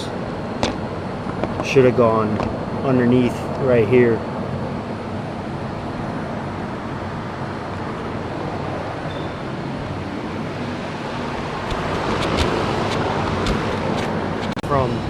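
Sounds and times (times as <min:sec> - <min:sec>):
background rumble and hiss: 0:00.0 - 0:15.0.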